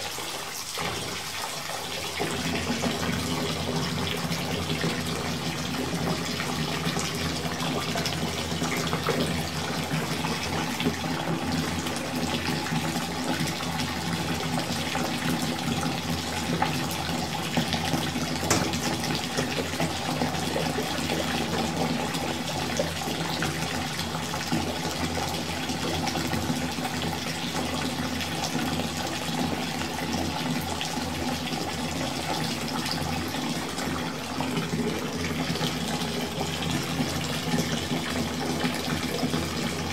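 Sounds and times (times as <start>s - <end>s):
tap water filling bathtub: 0.0s - 39.9s.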